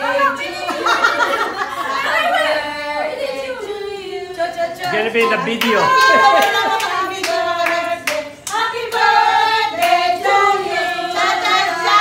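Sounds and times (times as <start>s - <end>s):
group singing birthday song: 0.0s - 12.0s.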